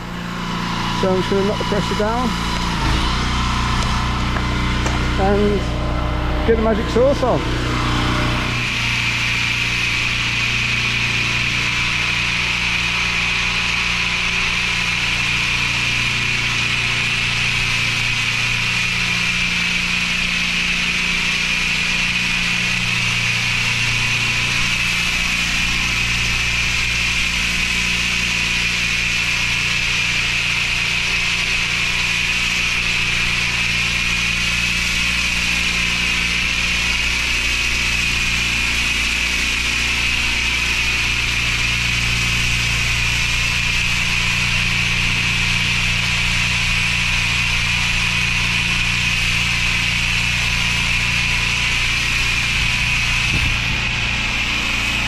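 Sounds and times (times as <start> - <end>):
pressure washer engine running: 0.0 - 55.0
spray lance hissing: 6.6 - 55.0.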